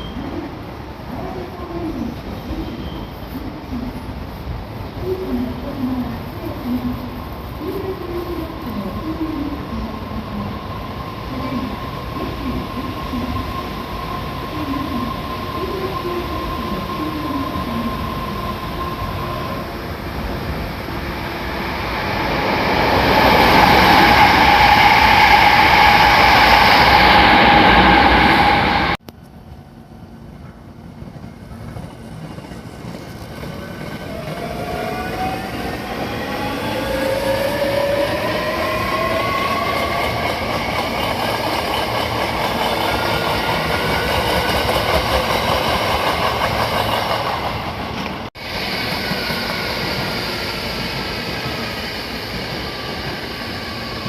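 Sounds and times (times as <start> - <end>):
train wheel and running noise: 0.0 - 54.0.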